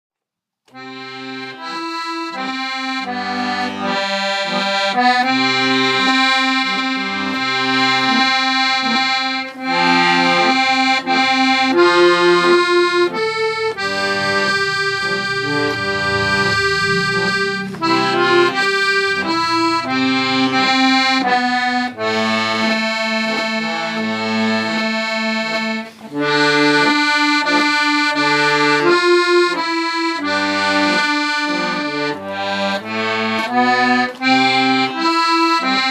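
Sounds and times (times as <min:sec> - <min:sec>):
accordion playing a tune: 0:00.7 - 0:35.9.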